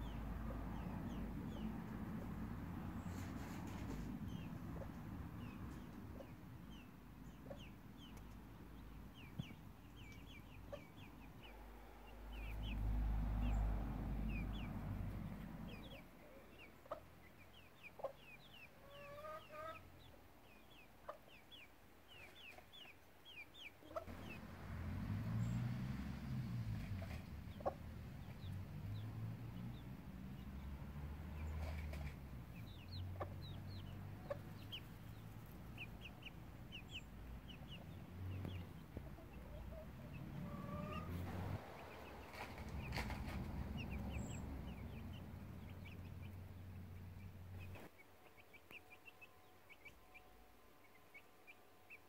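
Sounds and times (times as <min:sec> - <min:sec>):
chicks peeping: 0:00.0 - 0:25.9, 0:26.6 - 0:52.0.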